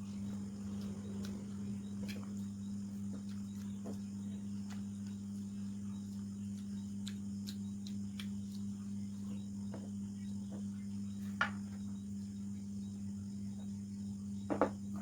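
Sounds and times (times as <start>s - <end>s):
soft chewing: 0.0s - 13.9s
insect chirring: 0.0s - 15.0s
low electrical hum: 0.0s - 15.0s.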